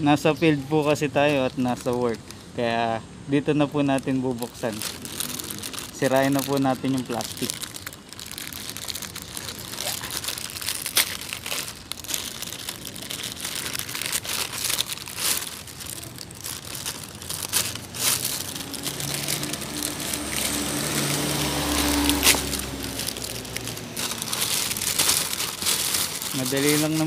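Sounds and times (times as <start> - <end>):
plastic pouch crinkling and tearing: 0.8 - 2.6, 3.8 - 27.0.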